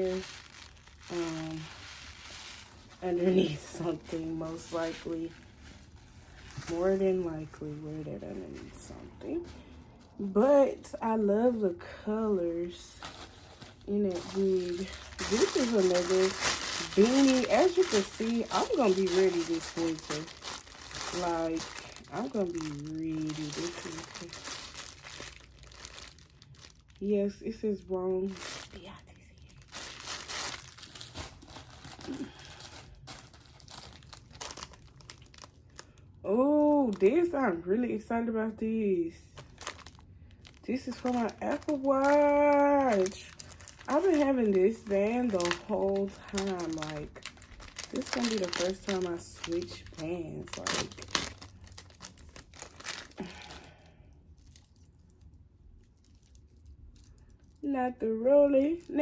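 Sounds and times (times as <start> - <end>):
packaging crinkling and rustling: 0.0 - 37.5, 39.2 - 57.6.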